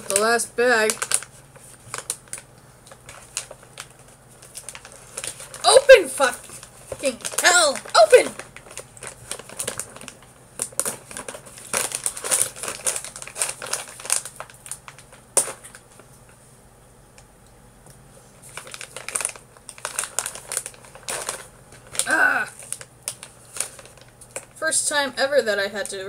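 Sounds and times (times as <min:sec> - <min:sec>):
plastic bag crinkling: 0:00.0 - 0:16.4, 0:18.3 - 0:24.7.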